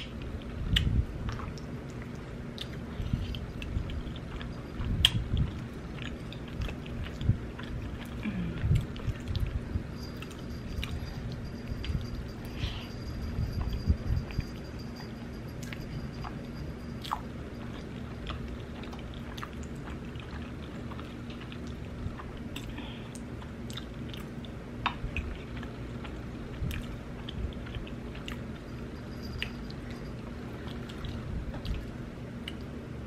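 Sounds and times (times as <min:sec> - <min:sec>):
person chewing food: 0:00.0 - 0:14.8, 0:15.6 - 0:32.8.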